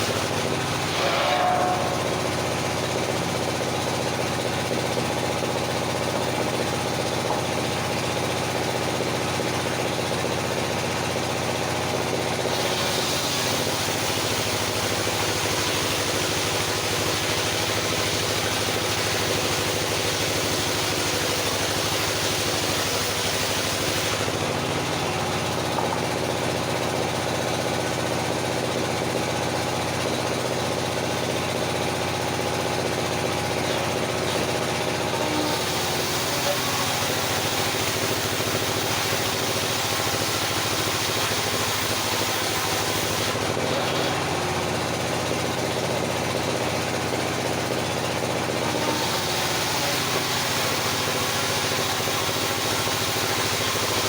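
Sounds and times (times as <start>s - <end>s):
saw blade cutting wood: 0.0s - 8.7s, 12.0s - 32.2s, 32.9s - 45.7s, 48.6s - 54.0s
sawmill engine running: 0.0s - 54.0s.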